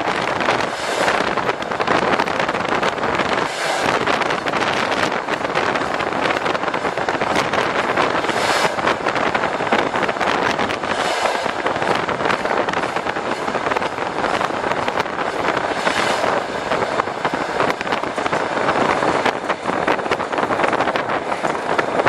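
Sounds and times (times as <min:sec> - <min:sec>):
rush of wind: 0:00.0 - 0:22.0
train wheels rattling and clattering: 0:00.0 - 0:22.0.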